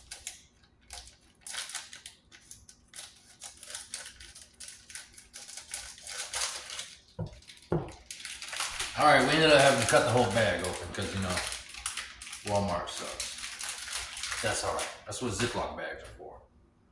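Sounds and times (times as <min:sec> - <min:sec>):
scissors cutting plastic bag: 0:00.0 - 0:15.6.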